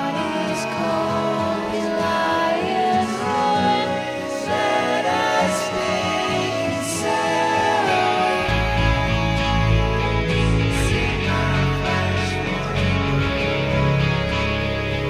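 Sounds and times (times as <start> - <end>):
song with singing: 0.0 - 15.0.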